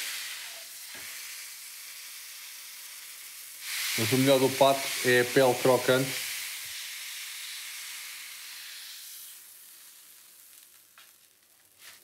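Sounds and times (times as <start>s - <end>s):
duck sizzling in a frying pan: 0.0s - 12.0s.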